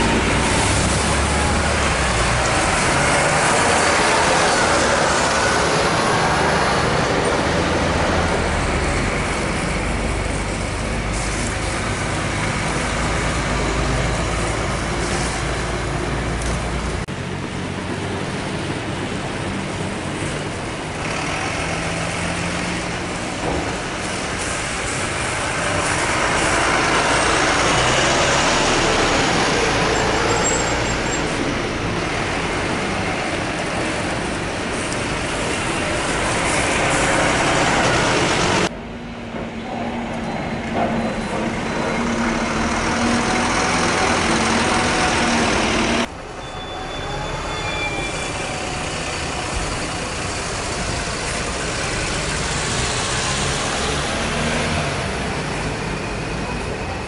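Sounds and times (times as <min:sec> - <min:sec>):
buses driving past: 0:00.0 - 0:57.0
street traffic: 0:00.0 - 0:57.0.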